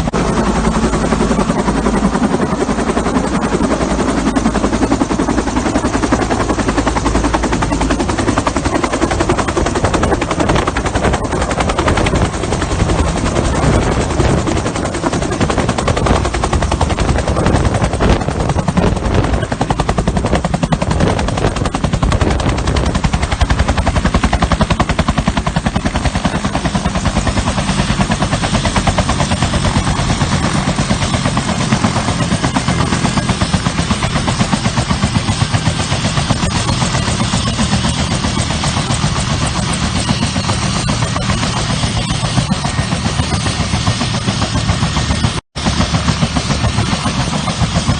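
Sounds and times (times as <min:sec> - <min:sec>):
helicopter rotor chopping: 0:00.0 - 0:47.9.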